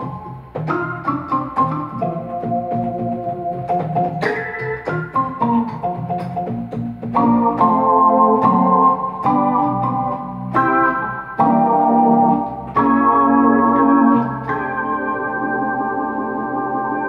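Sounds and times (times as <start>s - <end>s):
electronic keyboard organ chords: 0.0s - 17.0s.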